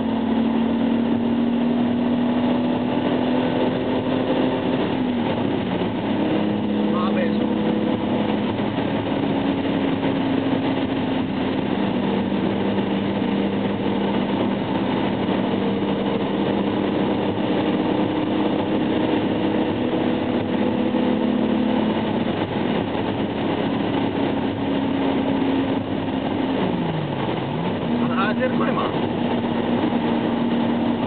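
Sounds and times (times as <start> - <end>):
car engine hum: 0.0 - 31.0
tyre and road noise: 0.0 - 31.0.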